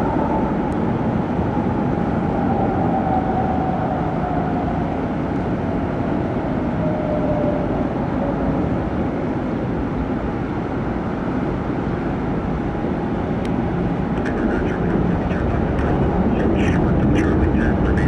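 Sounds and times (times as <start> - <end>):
passing aircraft engines: 0.0 - 18.0.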